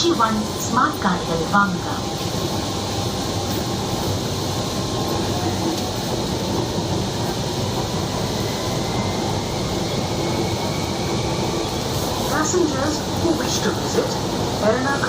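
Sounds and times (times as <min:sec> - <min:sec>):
train rumbling and humming: 0:00.0 - 0:15.0.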